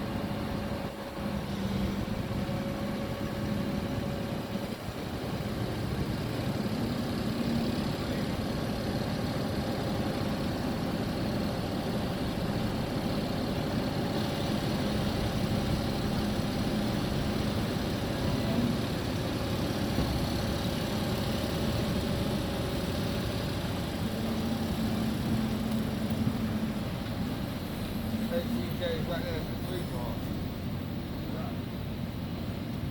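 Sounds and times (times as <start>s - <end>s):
lorry diesel engine droning: 0.0s - 32.9s.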